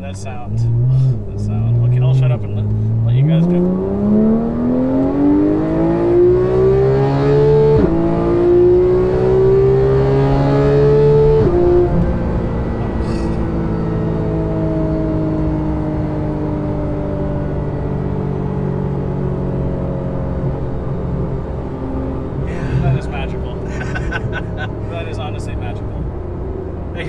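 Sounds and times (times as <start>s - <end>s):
sports car engine accelerating: 0.1s - 27.0s.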